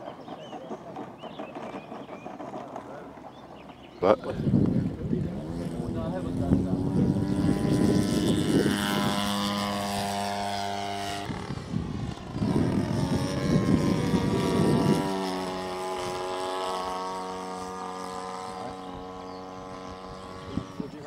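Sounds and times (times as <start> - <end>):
model plane engine and propeller: 0.0 - 21.0.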